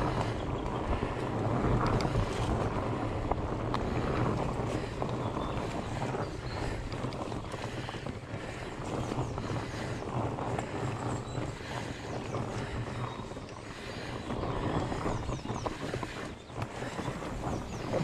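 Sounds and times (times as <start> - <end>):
mountain bike rattling on dirt: 0.0 - 18.0
wind buffeting microphone: 0.0 - 18.0.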